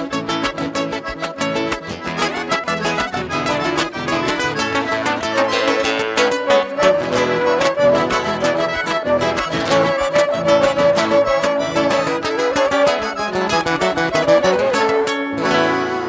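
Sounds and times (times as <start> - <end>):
folk dance band with accordion: 0.0 - 16.0.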